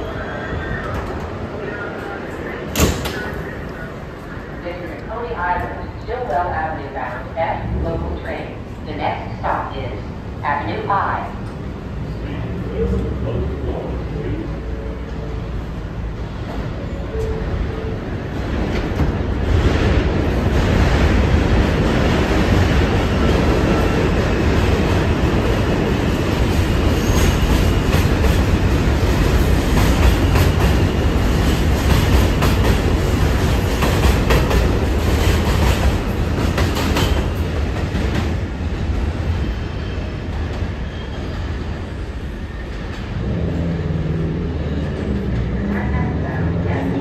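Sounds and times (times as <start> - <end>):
subway train running past: 0.0 - 47.0.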